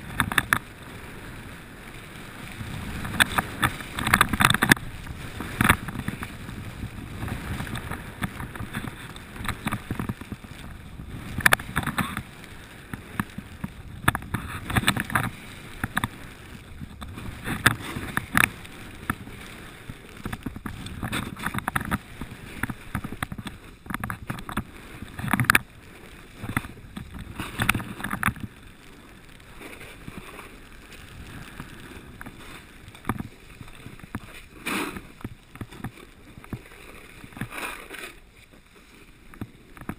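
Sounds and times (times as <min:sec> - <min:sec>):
snowboard scraping on snow: 0:00.0 - 0:39.9.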